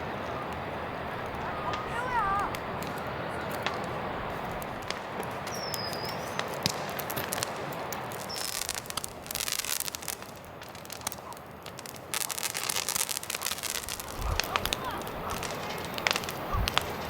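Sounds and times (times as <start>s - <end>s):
crackling and sharp clicks: 0.0s - 17.0s
steady hiss: 0.0s - 17.0s.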